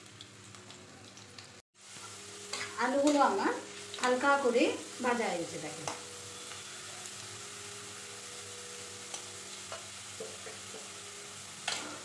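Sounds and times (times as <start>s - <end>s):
potatoes sizzling in oil: 0.0s - 12.0s.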